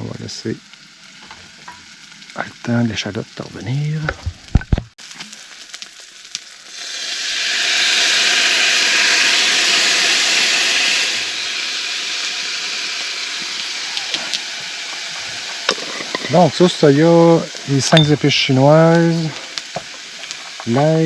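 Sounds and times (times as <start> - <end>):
sizzling in a pan: 0.0 - 21.0.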